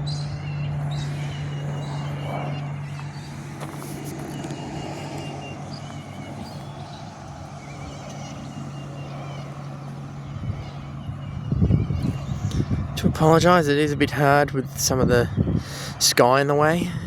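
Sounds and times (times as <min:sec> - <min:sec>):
small birds chirping: 0:00.0 - 0:16.8
distant engine rumble: 0:00.0 - 0:17.0.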